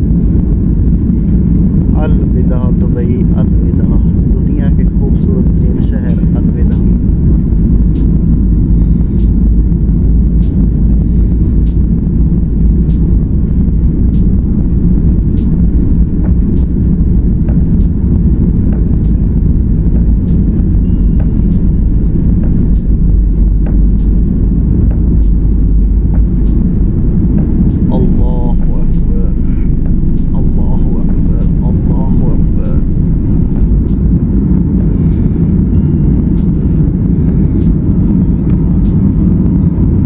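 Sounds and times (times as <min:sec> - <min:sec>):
jet engine cabin rumble: 0:00.0 - 0:40.0.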